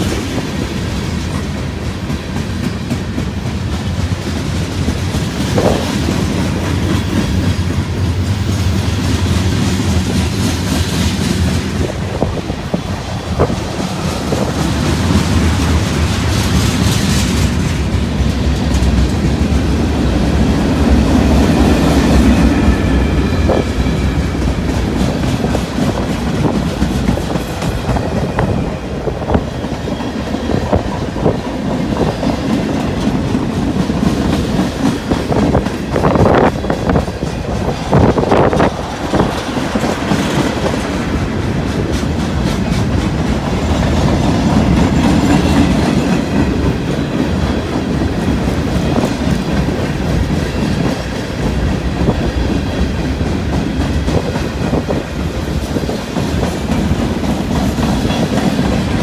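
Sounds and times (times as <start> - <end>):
loud train knocks: 0.0 - 59.0
train wheels clicking over rail joints: 0.0 - 59.0.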